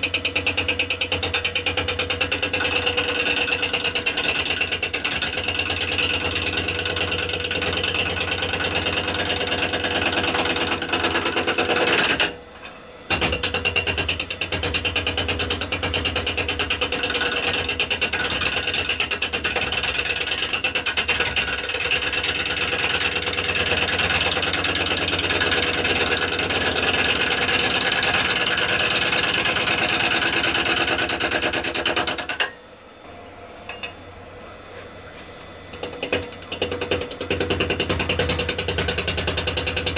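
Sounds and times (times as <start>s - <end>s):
wood lathe running: 0.2s - 12.4s, 13.4s - 32.5s, 35.1s - 39.9s
gouge chattering on wood lathe: 0.8s - 12.3s, 13.7s - 32.4s, 35.8s - 39.9s.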